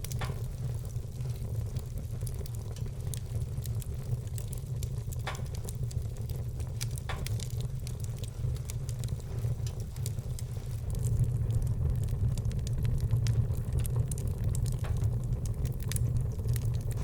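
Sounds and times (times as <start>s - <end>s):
fire pops: 0.0s - 17.0s
wood fire crackling: 0.0s - 17.0s.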